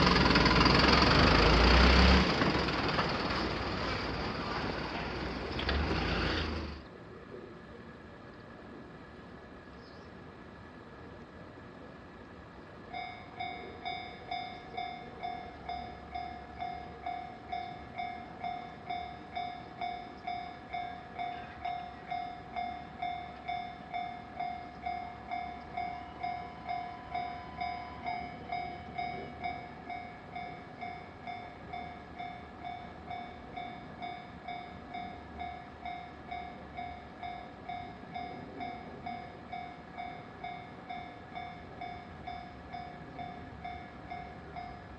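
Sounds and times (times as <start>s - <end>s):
level-crossing warning bell: 0.0s - 5.7s, 12.8s - 44.9s
low train rumble: 0.0s - 44.9s.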